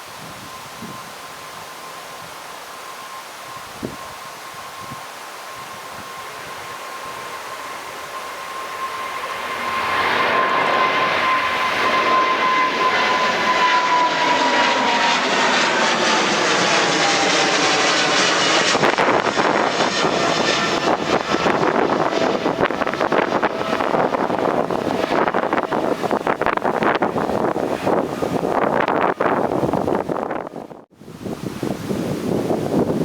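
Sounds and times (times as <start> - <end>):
jet airliner passing: 0.0 - 33.0
wind buffeting microphone: 0.0 - 33.0.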